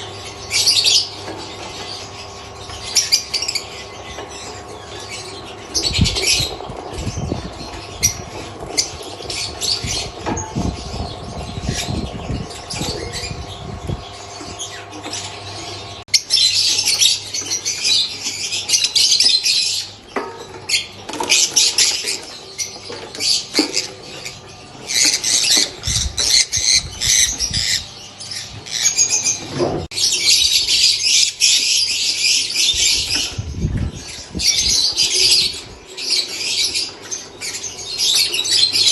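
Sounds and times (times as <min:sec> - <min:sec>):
lovebirds chattering shrilly: 0:00.0 - 0:38.9.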